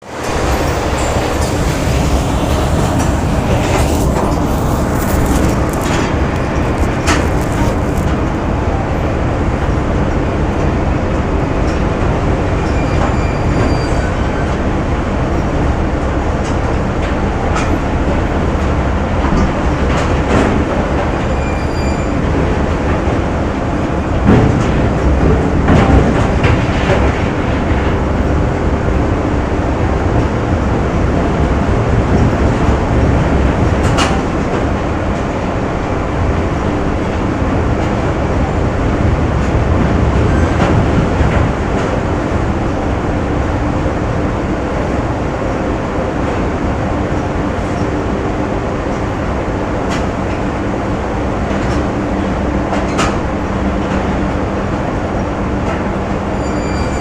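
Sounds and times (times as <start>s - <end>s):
machines rumbling: 0.0s - 57.0s.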